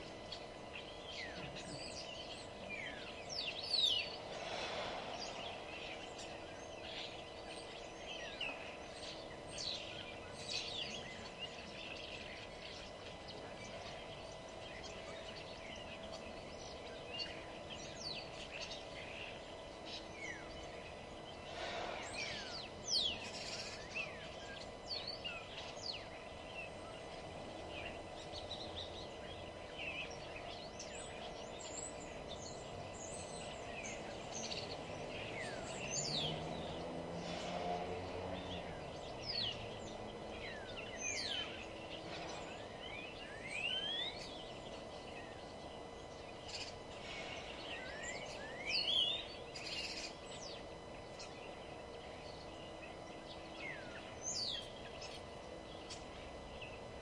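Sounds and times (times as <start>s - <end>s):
birds chirping: 0.0s - 57.0s
low background hum: 0.0s - 57.0s.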